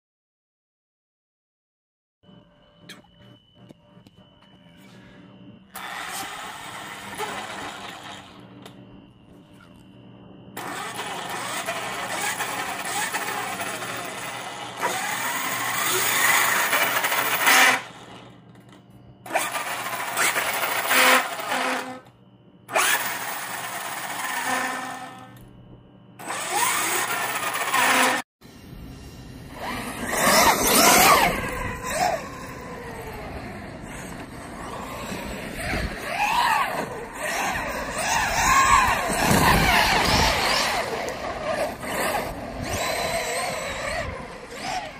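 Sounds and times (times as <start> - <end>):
electric motor whine revving: 5.4 - 25.5, 26.2 - 28.3, 29.5 - 44.9
rc car driving: 5.7 - 25.6, 26.2 - 44.9.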